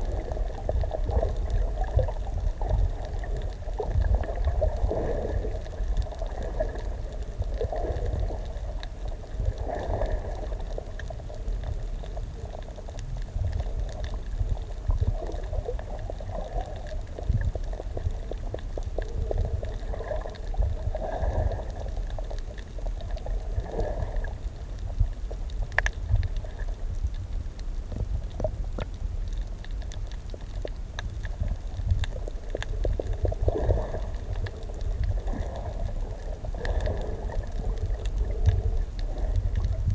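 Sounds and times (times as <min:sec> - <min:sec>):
low constant rumble: 0:00.0 - 0:39.9
underwater bubbles gurgling: 0:00.0 - 0:39.9.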